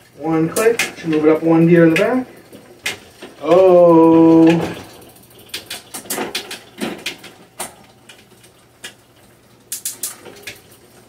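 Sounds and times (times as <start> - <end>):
bicycle chain ticking: 0.0 - 11.0.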